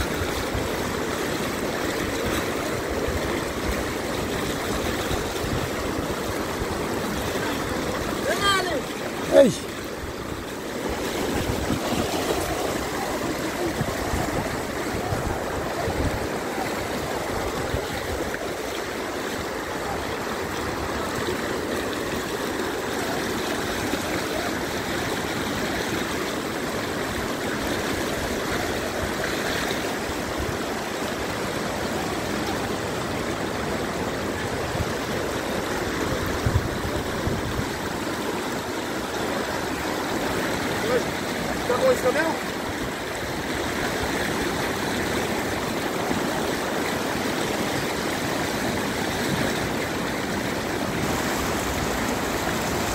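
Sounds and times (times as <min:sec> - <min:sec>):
river floodwater rushing: 0:00.0 - 0:52.9.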